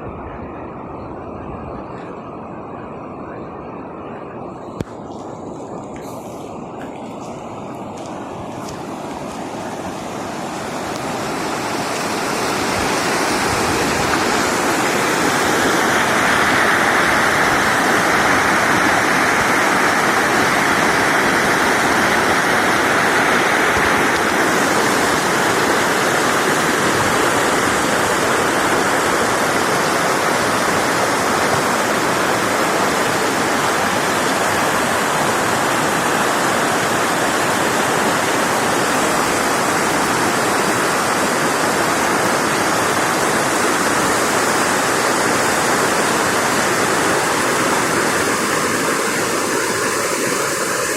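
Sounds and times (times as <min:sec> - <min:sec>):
flowing water rushing: 0:04.4 - 0:50.9.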